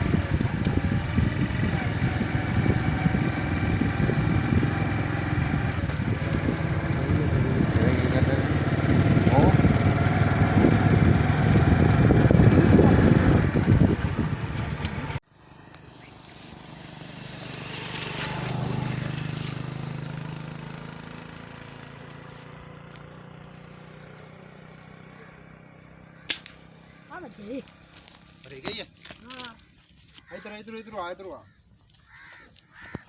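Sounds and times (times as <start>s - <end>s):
distant vehicle passing: 0.0s - 28.0s
vehicle engine running loud: 0.0s - 28.1s.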